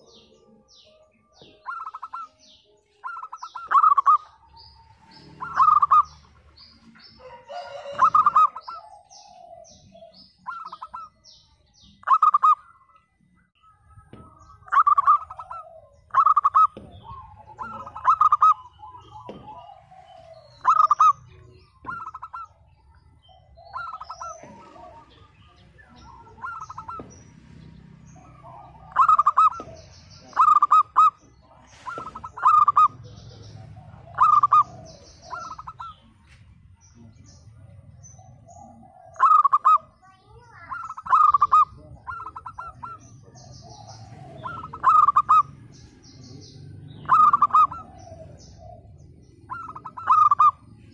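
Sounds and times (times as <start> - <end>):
small birds chirping: 0.0 - 50.9
dove cooing: 1.4 - 12.8, 14.0 - 36.2, 37.6 - 50.9.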